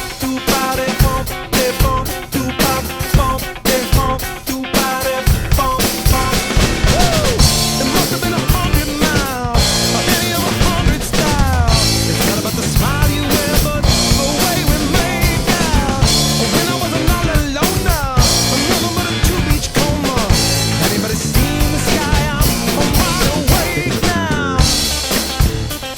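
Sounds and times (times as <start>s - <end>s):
drum kit beat: 0.0s - 25.9s.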